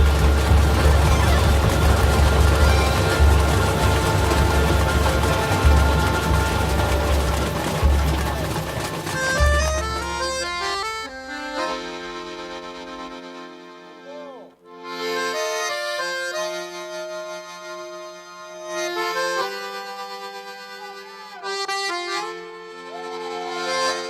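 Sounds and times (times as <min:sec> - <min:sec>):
accordion playing slow chords: 0:00.0 - 0:24.0.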